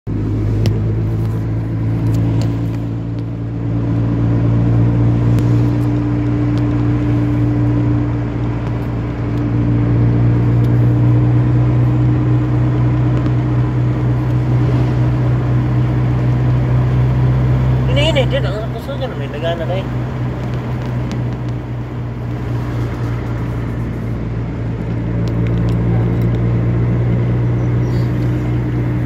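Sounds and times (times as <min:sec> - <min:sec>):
car engine humming: 0:00.0 - 0:29.0.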